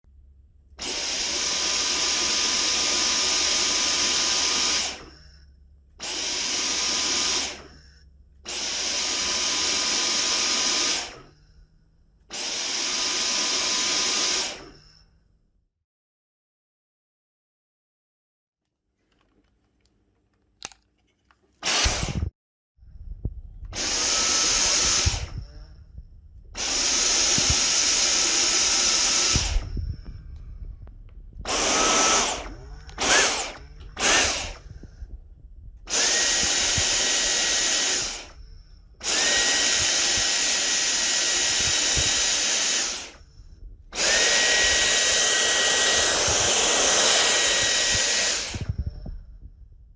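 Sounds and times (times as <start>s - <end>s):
cordless vacuum motor whining: 0.8s - 11.6s, 12.3s - 15.0s, 21.6s - 22.3s, 23.7s - 49.9s.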